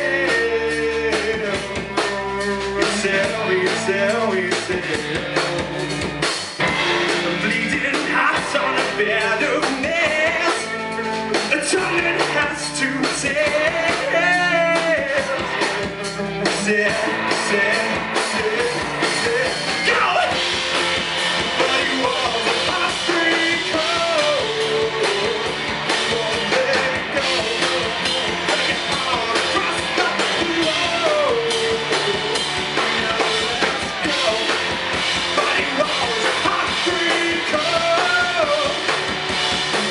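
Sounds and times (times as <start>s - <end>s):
man singing: 0.0s - 6.2s, 7.0s - 39.9s
rock band playing: 0.0s - 39.9s.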